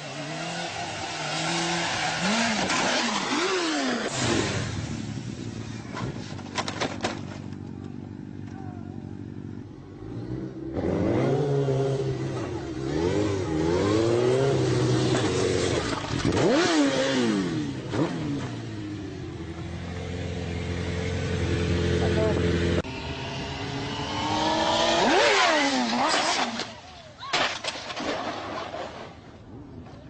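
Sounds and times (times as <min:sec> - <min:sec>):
motorcycle engine accelerating: 0:00.0 - 0:26.8.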